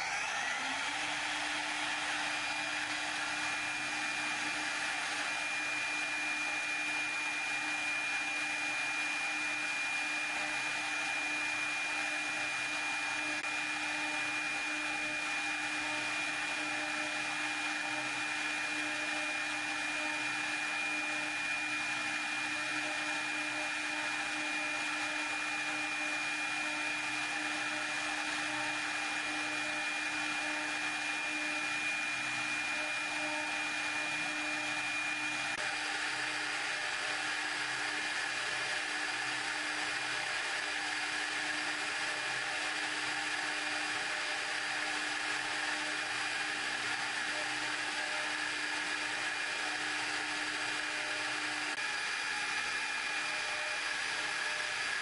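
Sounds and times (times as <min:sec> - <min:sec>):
milling machine hiss and whine: 0:00.0 - 0:55.0.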